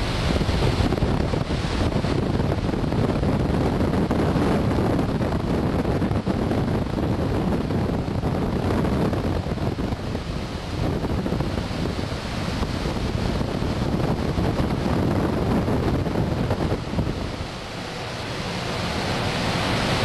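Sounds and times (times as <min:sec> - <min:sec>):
air rushing past glider cockpit: 0:00.0 - 0:20.0.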